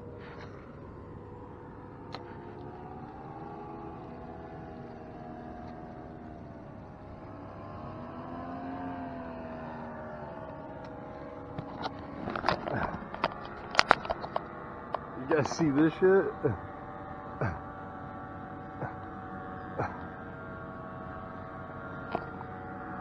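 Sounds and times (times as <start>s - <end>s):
paramotor engine droning: 0.0s - 23.0s.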